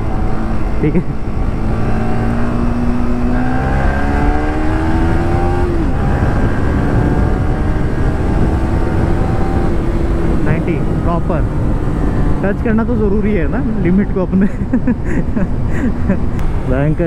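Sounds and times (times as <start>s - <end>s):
motorcycle engine accelerating: 0.0s - 17.0s
wind rush on microphone: 0.0s - 17.0s.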